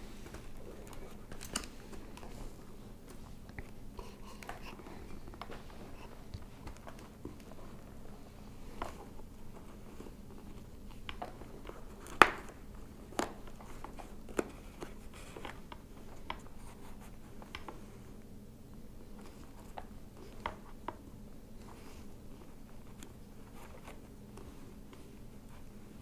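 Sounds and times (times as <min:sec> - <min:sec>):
rustling of padding and plastic: 0:00.0 - 0:26.0.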